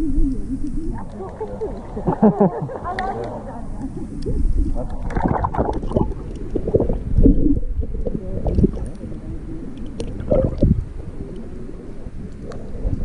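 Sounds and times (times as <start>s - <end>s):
underwater sloshing and bubbling: 0.0s - 13.0s.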